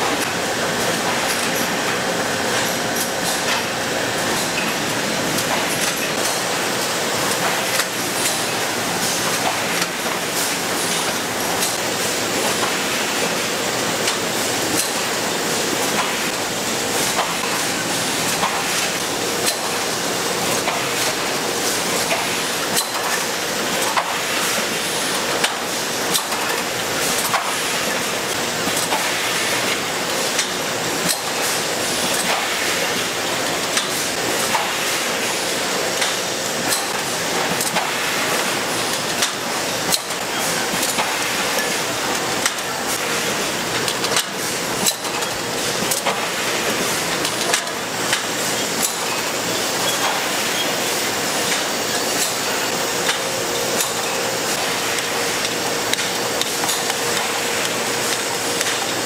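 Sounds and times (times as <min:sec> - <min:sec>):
conveyor clicking and clattering: 0:00.0 - 0:59.0.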